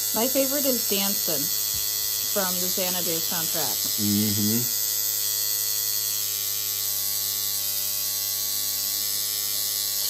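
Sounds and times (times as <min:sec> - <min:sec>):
tattoo machine buzzing: 0:00.0 - 0:10.0.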